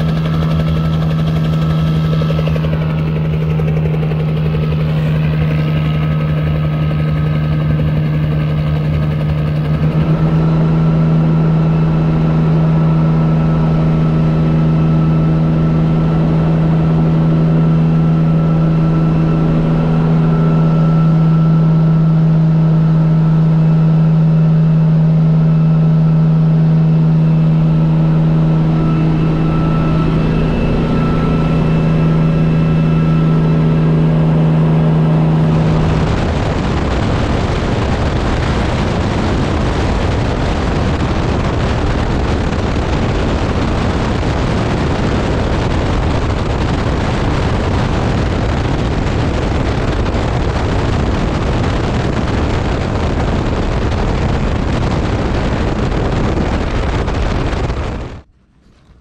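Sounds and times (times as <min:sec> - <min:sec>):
helicopter engine and rotor: 0:00.0 - 0:59.0.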